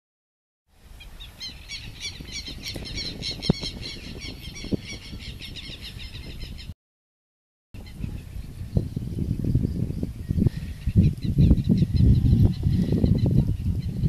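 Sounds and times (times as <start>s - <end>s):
wind rumble on microphone: 0.8s - 6.8s, 7.8s - 14.0s
small birds chirping: 1.0s - 6.8s, 7.8s - 14.0s.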